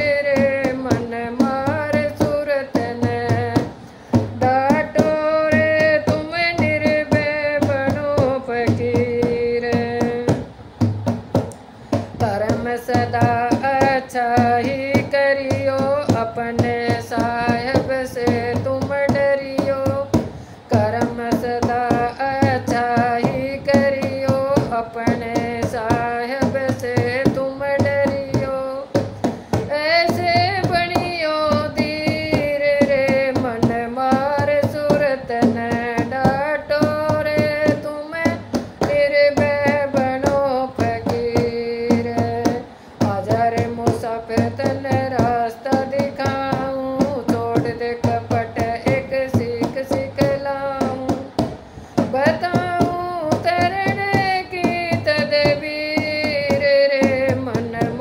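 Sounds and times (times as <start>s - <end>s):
steady drum beat: 0.0s - 58.0s.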